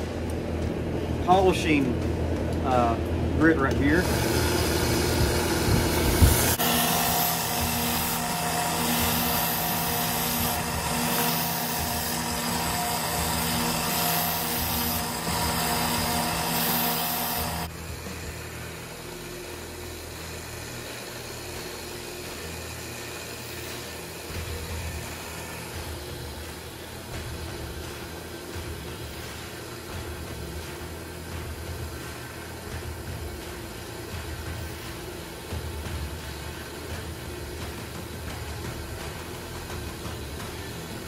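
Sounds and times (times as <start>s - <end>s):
steady background noise: 0.0s - 41.0s
belt grinder motor humming: 3.6s - 41.0s.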